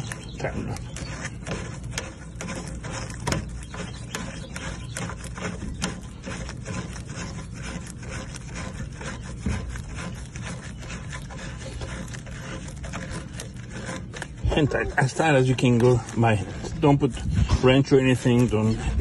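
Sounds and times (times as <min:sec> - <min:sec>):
plastic threads scraping and clicking: 0:00.0 - 0:19.0.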